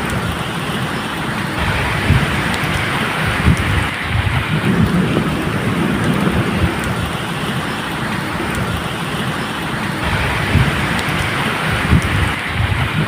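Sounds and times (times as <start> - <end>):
distant thunder rumbling: 0.0 - 13.0
rain falling: 0.0 - 13.0.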